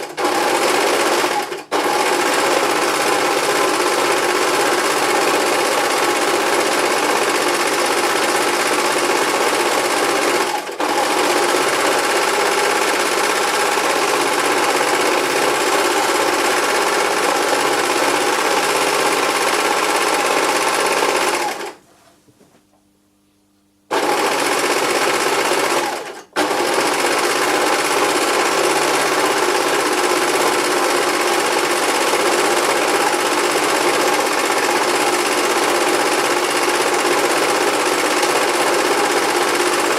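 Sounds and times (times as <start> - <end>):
sewing machine running fast: 0.0 - 21.8, 23.9 - 39.9.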